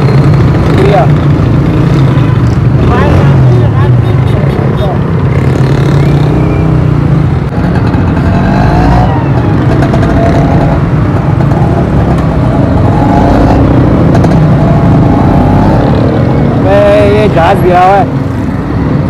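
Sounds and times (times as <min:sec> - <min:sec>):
city traffic: 0:00.0 - 0:19.0
motorcycle engine: 0:00.0 - 0:19.0.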